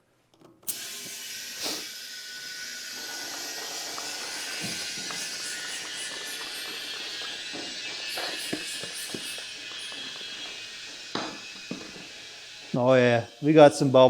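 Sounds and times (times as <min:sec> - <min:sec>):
compressed air hissing into tire: 0:00.7 - 0:14.0.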